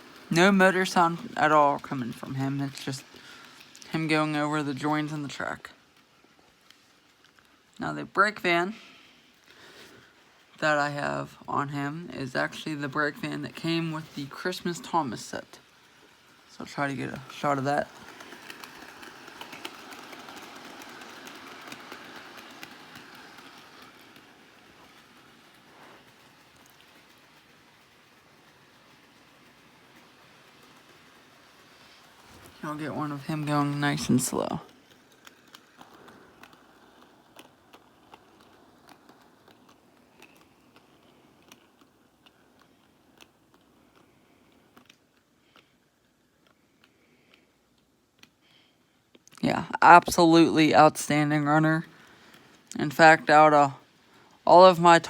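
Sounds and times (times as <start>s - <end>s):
rolling hiss of train: 0.0s - 47.7s, 48.4s - 55.0s
model train wheels clicking on rails: 0.0s - 55.0s.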